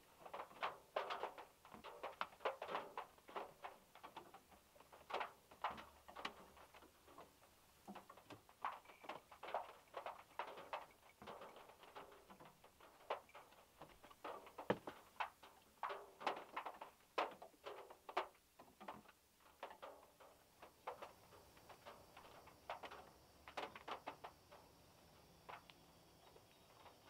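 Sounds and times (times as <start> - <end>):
raindrops tapping on metal roof: 0.0 - 27.0.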